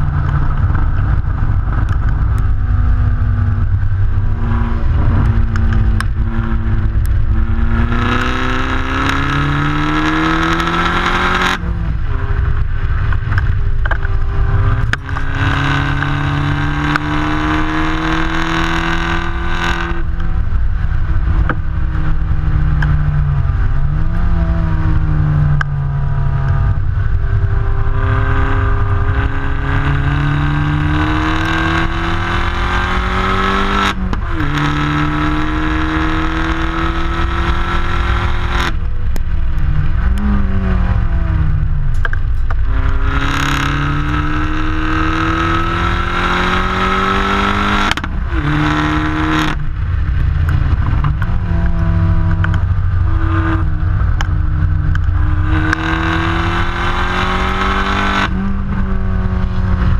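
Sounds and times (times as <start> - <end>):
car engine accelerating: 0.0 - 59.9
wind and road rush: 0.0 - 59.9.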